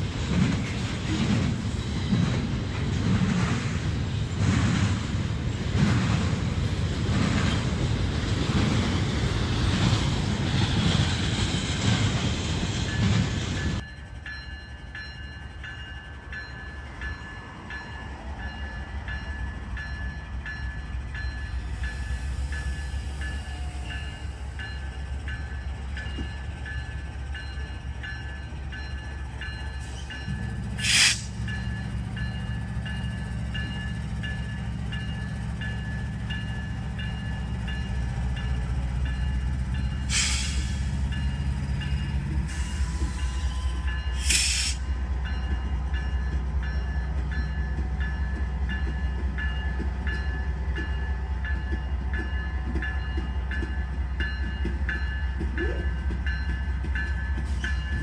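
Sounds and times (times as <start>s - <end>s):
diesel locomotive rumble: 0.0s - 58.0s
train wheels rushing on rail: 0.0s - 58.0s.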